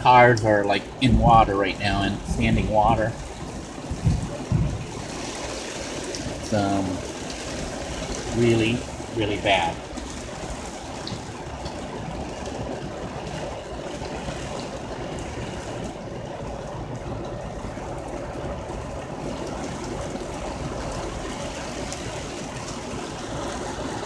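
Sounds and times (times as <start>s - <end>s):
heavy rain on a vehicle roof: 0.0s - 24.0s.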